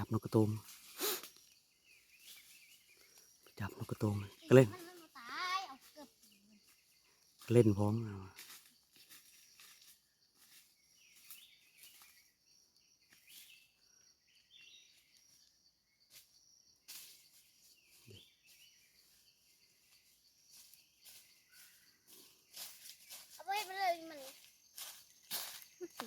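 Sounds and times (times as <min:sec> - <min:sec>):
bird chirps: 0:00.0 - 0:26.0
high insect hum: 0:00.0 - 0:26.0.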